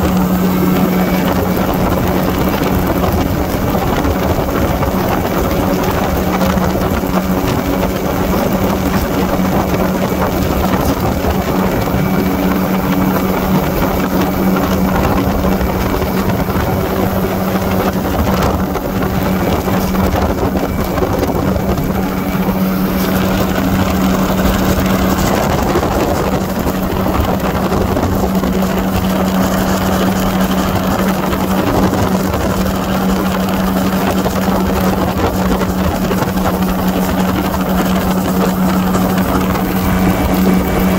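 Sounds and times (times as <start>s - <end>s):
aircraft engine drone: 0.0s - 40.9s
constant rushing noise: 0.0s - 40.9s.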